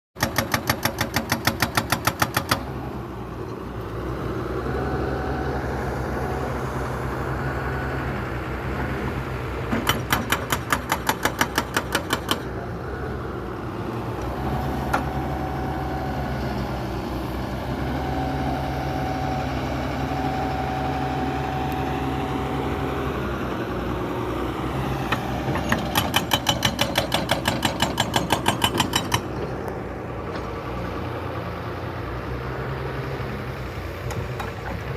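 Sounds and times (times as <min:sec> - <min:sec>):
engine running: 0:00.2 - 0:34.9.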